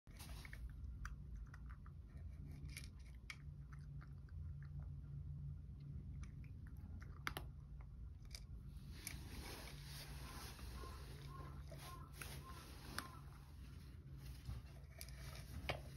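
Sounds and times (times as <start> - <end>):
cat chewing and crunching: 0.1 - 15.9
steady low hum: 0.1 - 15.9.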